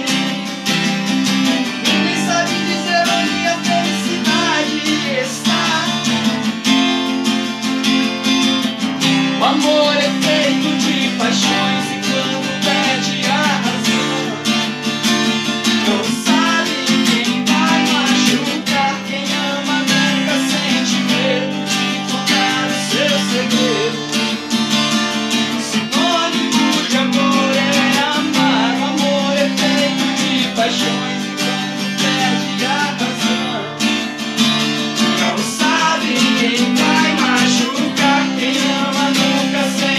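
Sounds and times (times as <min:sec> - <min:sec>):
duo singing a ballad: 0:00.0 - 0:06.8, 0:09.0 - 0:14.7, 0:15.4 - 0:24.5, 0:25.4 - 0:34.1, 0:34.8 - 0:39.9
acoustic guitar strumming: 0:00.0 - 0:39.9.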